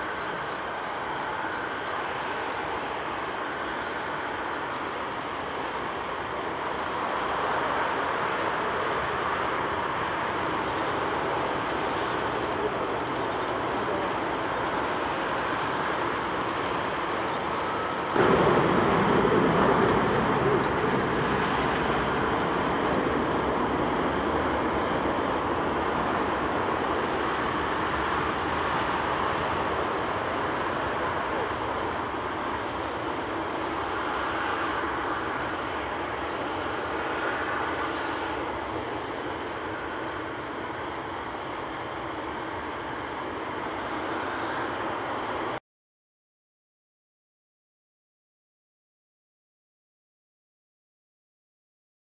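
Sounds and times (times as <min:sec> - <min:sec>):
jet engines running: 0:00.0 - 0:45.6.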